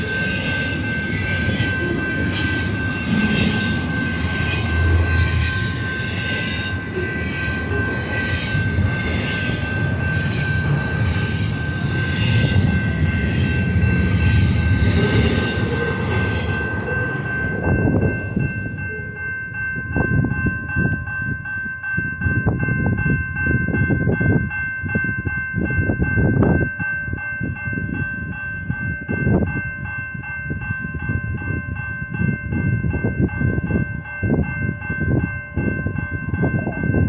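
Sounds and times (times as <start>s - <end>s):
freight train rushing roar: 0.0s - 37.0s
high ringing tones: 0.0s - 37.0s.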